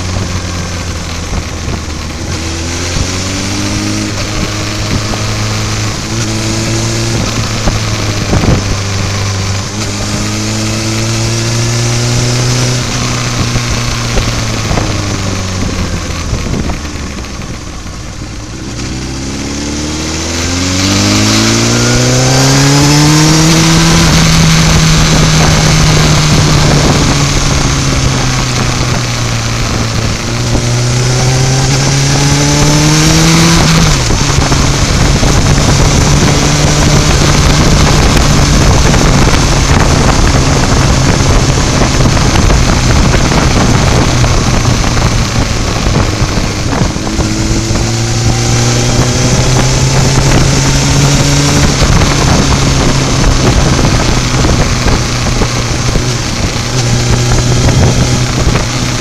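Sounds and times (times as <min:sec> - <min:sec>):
motorcycle engine revving: 0:00.0 - 0:59.0
wind rushing past: 0:00.0 - 0:59.0.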